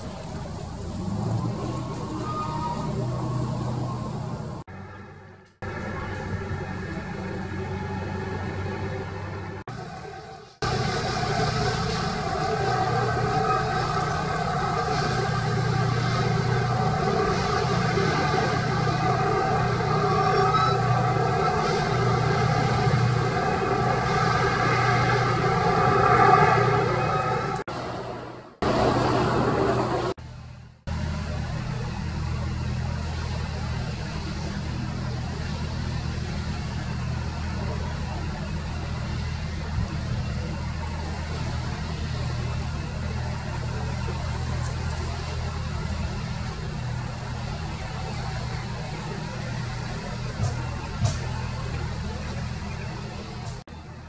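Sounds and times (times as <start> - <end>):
jet engines passing overhead: 0.0 - 54.0.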